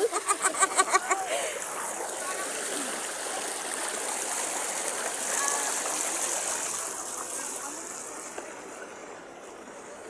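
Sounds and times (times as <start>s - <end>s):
stream water rushing and splashing: 0.0s - 10.0s.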